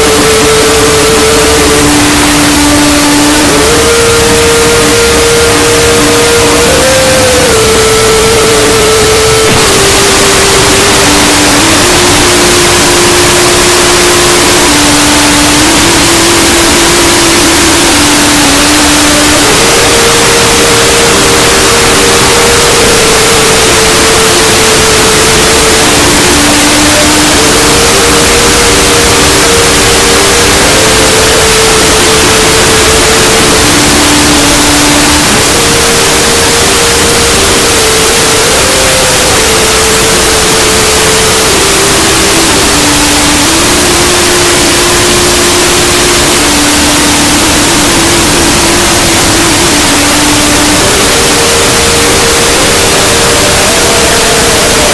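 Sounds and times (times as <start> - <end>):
loud clipped distorted noise: 0.0 - 54.9
slow held tones: 0.0 - 54.9.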